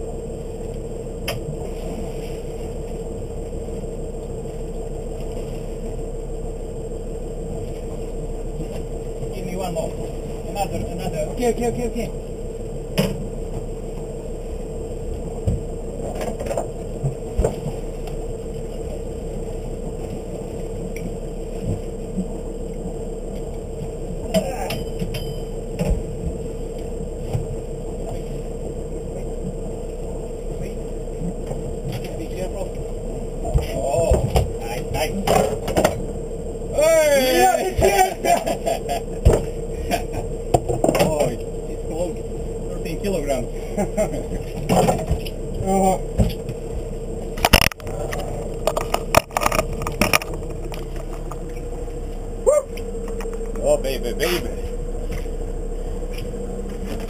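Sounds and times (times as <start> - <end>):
motorboat engine running: 0.0 - 57.0
steady low hum: 0.0 - 57.0.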